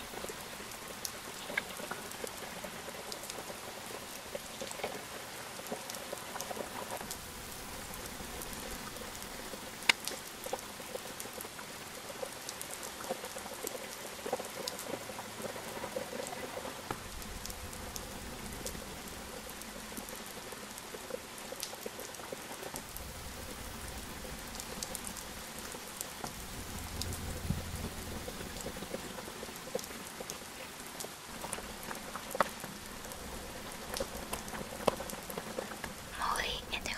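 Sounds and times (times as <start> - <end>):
rain pattering: 0.0 - 36.9.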